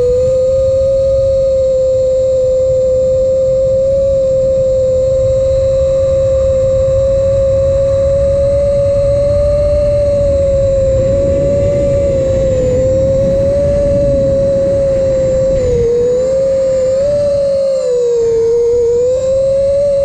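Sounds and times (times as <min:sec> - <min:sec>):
drone propellers whining: 0:00.0 - 0:20.0
low rushing noise: 0:03.0 - 0:20.0.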